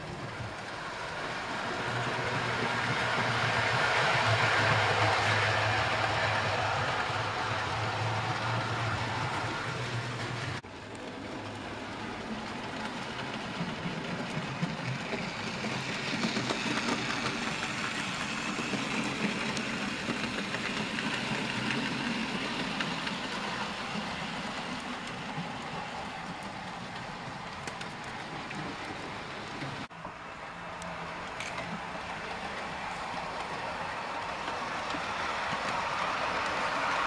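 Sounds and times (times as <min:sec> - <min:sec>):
model train whirring and rattling: 0:00.0 - 0:37.0.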